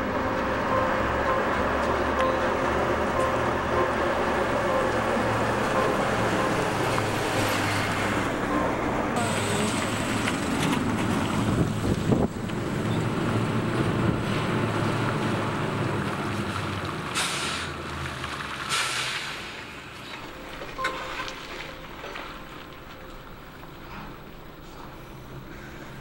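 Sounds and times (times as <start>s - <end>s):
truck engine running: 0.0s - 17.6s, 20.0s - 26.0s.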